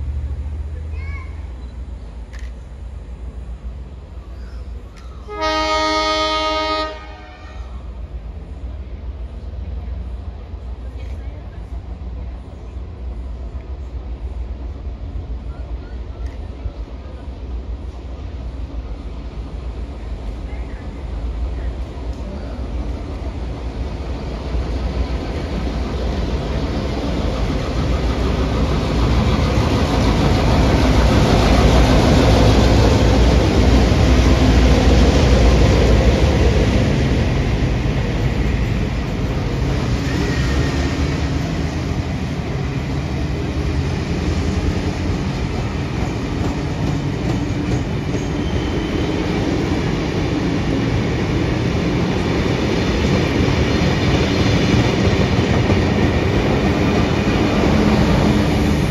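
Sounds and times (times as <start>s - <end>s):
diesel locomotives passing: 0.0s - 58.9s
train carriages rolling past: 0.0s - 58.9s.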